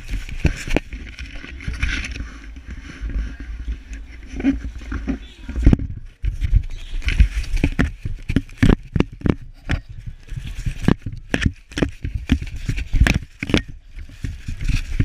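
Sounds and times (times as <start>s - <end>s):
knocks and scrapes on camera housing: 0.0s - 15.0s.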